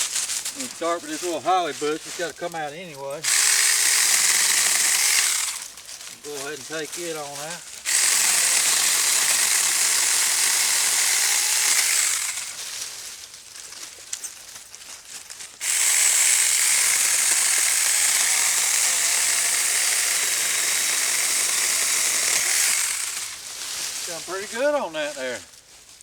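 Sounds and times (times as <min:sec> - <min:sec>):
electric chainsaw cutting bush: 0:00.0 - 0:13.2, 0:15.6 - 0:25.5.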